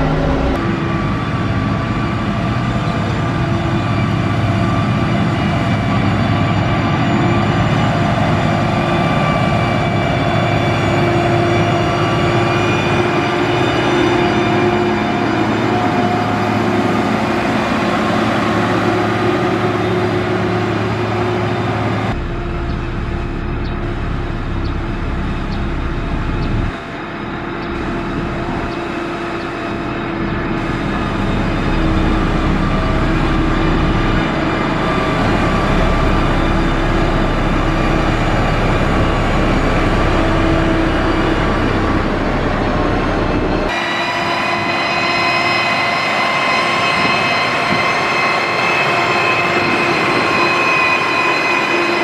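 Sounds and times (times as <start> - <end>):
heavy machinery diesel engine: 0.0 - 52.0.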